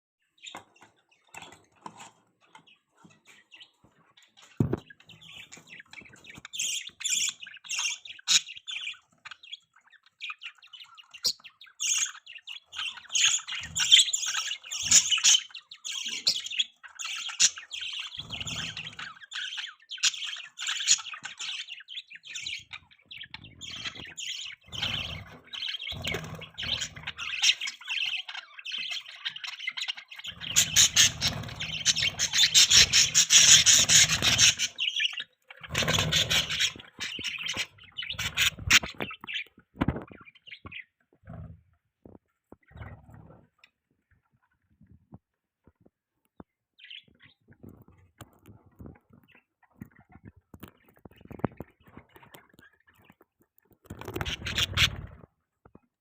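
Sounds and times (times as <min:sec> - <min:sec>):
budgerigars chirping and warbling: 0:00.3 - 0:41.7, 0:42.5 - 0:45.0, 0:46.8 - 0:55.8.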